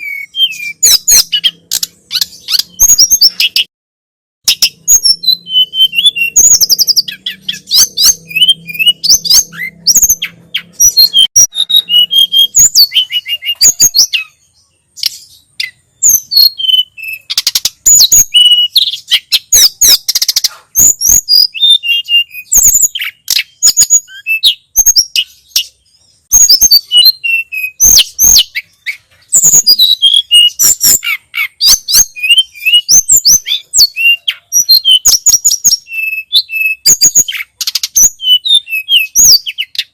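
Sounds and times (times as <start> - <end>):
bird singing chirps and trills: 0.0 - 3.7, 4.4 - 39.9.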